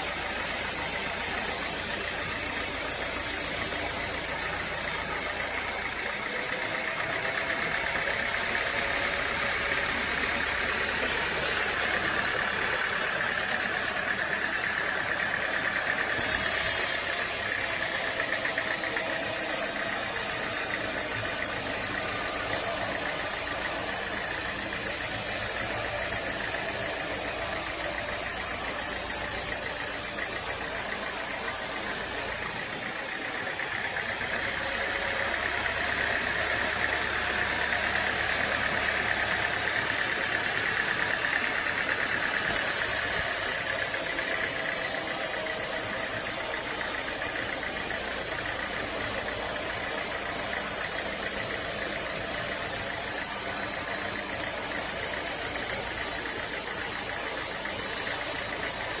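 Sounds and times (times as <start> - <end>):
machinery engine running: 0.0 - 59.0.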